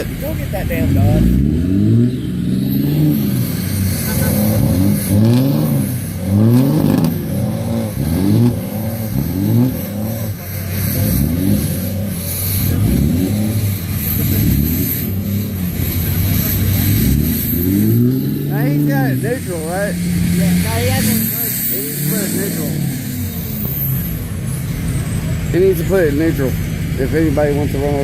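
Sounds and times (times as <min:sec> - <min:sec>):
vehicle engine revving: 0:00.0 - 0:28.0.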